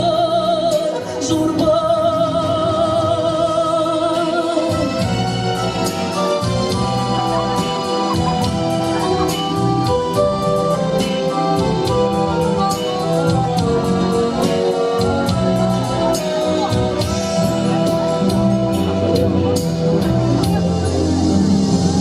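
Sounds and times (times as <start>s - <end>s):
bass: 0.0s - 22.0s
keyboard melody: 0.0s - 22.0s.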